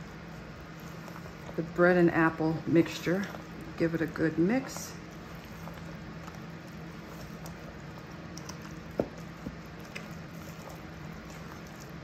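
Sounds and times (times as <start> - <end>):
low steady hum: 0.0 - 12.0
wet squishing of stirred mixture: 0.0 - 12.0.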